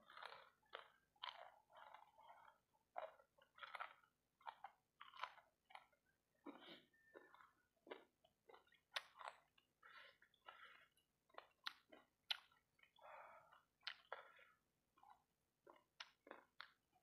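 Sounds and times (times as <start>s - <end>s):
wet chewing and smacking: 0.0s - 17.0s.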